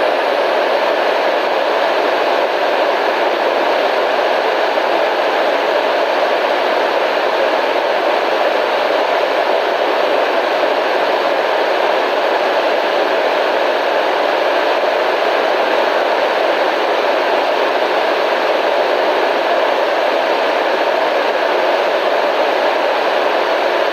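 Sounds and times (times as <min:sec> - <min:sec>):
radio static hiss: 0:00.0 - 0:23.9.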